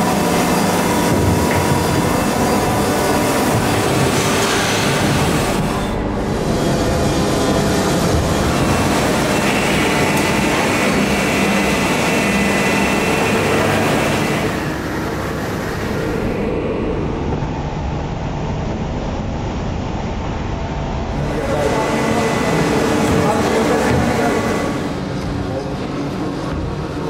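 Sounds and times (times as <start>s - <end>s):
high machine whine: 0.0s - 27.0s
injection moulding machines running: 0.0s - 27.0s.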